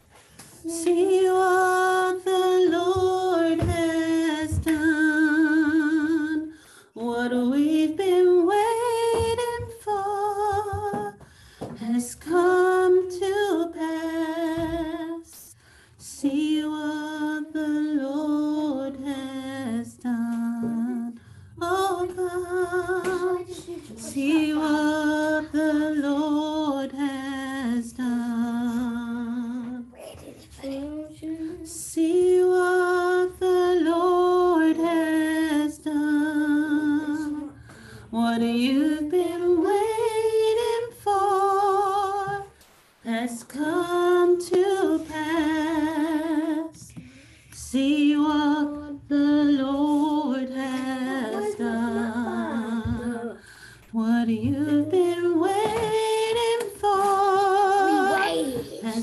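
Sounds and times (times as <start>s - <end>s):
woman singing unaccompanied: 0.6s - 29.9s, 31.1s - 59.0s.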